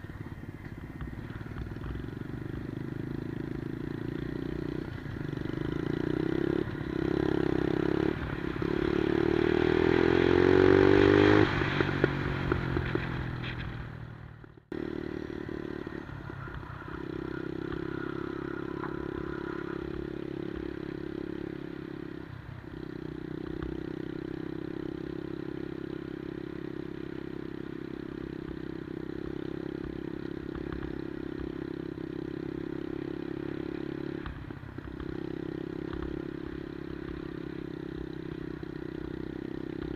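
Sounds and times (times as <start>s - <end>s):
minibike engine revving: 0.0s - 13.8s, 14.7s - 39.9s.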